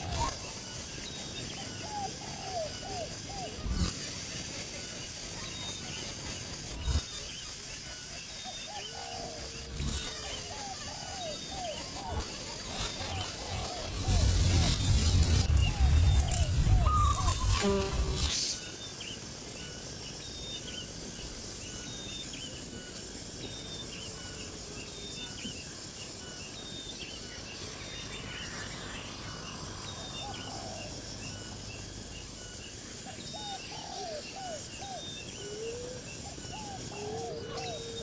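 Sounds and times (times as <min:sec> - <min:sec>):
lower looping bird calls: 0:00.0 - 0:38.0.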